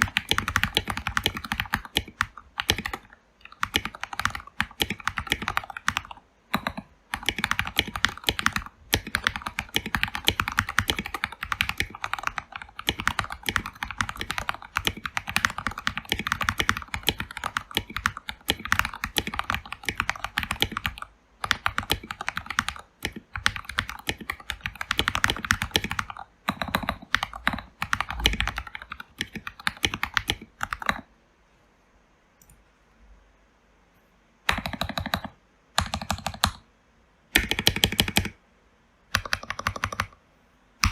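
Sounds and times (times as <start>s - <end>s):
mechanical keyboard typing: 0.0s - 31.1s, 34.5s - 36.6s, 37.3s - 38.4s, 39.1s - 40.2s.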